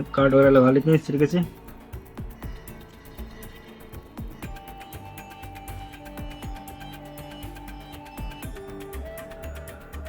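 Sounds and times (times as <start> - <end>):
synth music with drum beat: 0.0 - 10.0.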